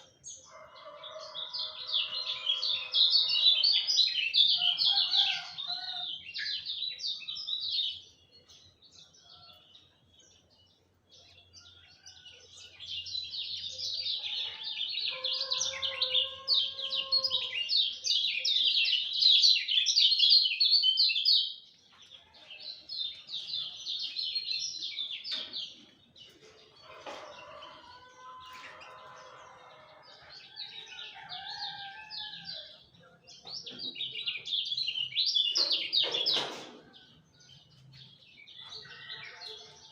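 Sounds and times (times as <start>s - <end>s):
songbird singing high chirps: 0.0s - 25.8s, 29.8s - 36.4s.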